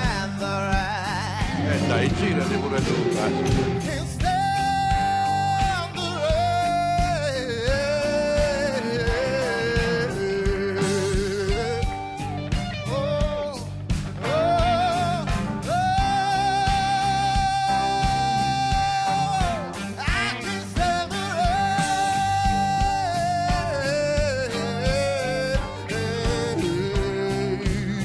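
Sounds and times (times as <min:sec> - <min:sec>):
man singing into a microphone: 0:00.0 - 0:12.2, 0:12.8 - 0:28.0
band accompaniment with steady beat: 0:00.0 - 0:28.0.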